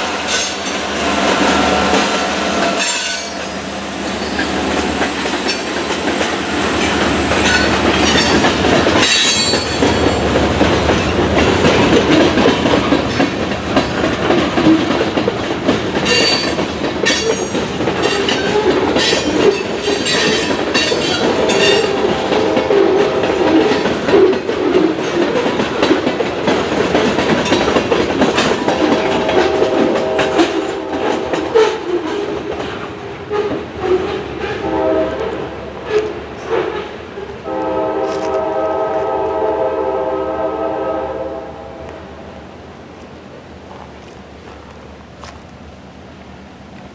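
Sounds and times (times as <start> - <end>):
freight train wheels clacking: 0.0 - 39.7.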